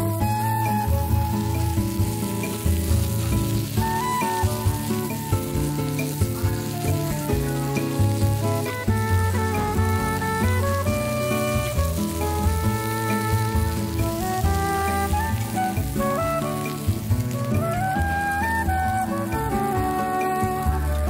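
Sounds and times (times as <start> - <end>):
instrumental background music: 0.0 - 21.0
vegetables sizzling on grill: 0.0 - 21.0.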